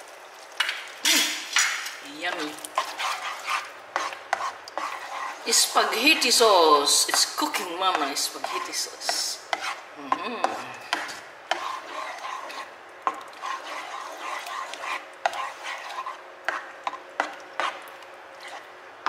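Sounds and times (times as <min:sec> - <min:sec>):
spoon scraping pan: 0:01.5 - 0:18.7
spoon stirring thick sauce: 0:01.5 - 0:18.8.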